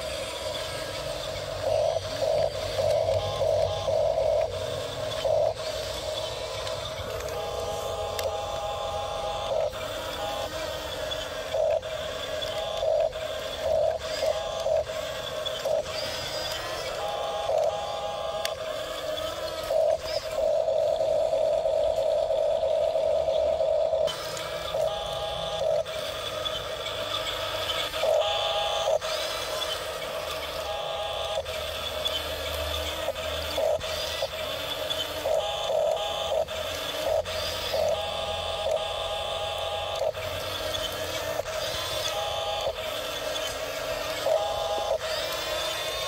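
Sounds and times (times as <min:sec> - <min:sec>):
toy electric motors whining: 0:00.0 - 0:46.0.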